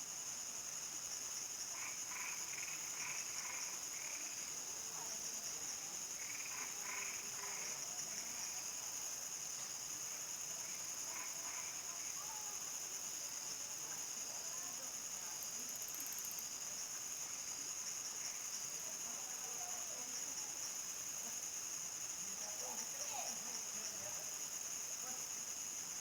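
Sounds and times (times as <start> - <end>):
crickets chirping chorus: 0.0 - 26.0.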